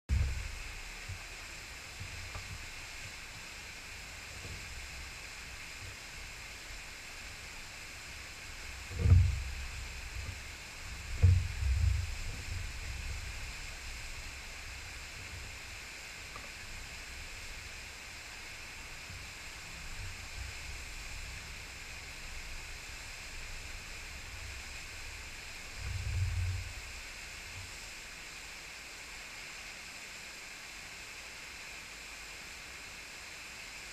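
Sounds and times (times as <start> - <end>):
low rumbles: 0.1 - 27.8
small waterfall rushing: 0.1 - 33.9.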